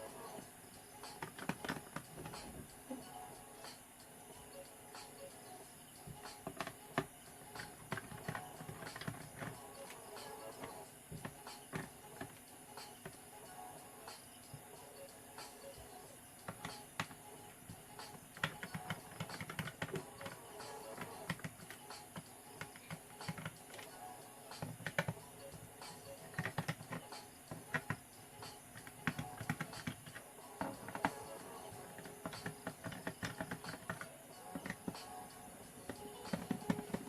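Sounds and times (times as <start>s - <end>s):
quiet background music: 0.0s - 37.0s.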